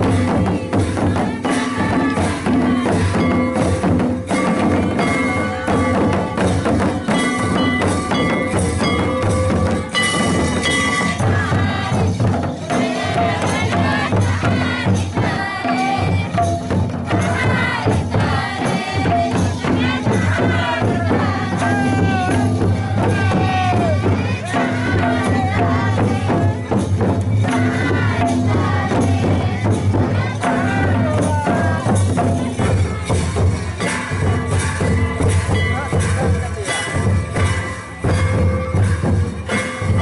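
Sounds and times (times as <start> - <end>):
rapid drum and percussion: 0.0 - 40.0
wavering singing voices: 0.0 - 40.0.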